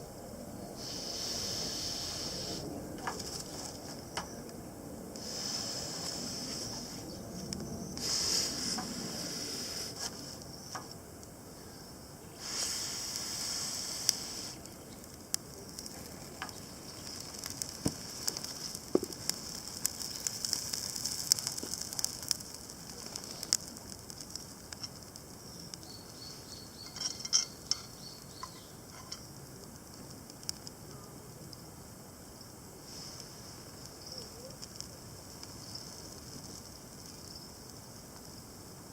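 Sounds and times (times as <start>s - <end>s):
fire hiss: 0.0s - 38.9s
campfire crackling and popping: 0.8s - 11.7s, 12.3s - 38.9s.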